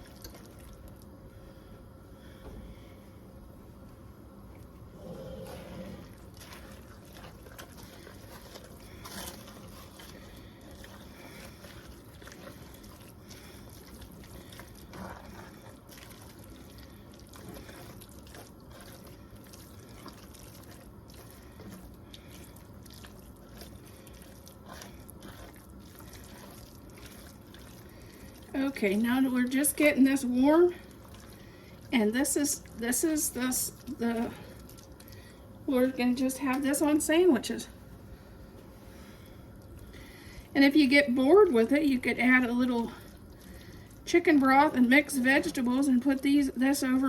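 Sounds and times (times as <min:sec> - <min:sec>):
soup bubbling in a pot: 0:00.0 - 0:02.9, 0:04.1 - 0:37.0, 0:37.8 - 0:46.3.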